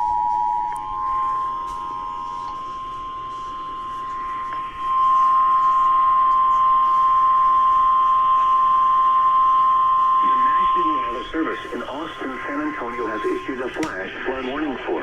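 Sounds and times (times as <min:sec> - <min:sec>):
weather radio alert tone: 0:00.0 - 0:15.0.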